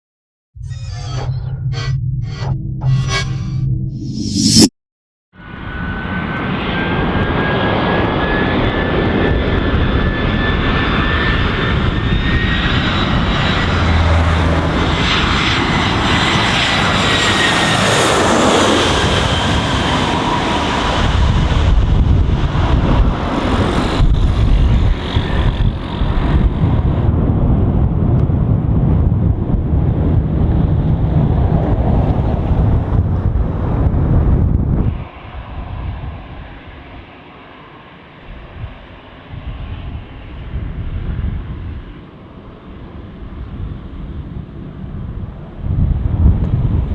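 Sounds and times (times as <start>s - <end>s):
jet engines flying overhead: 5.4s - 46.9s.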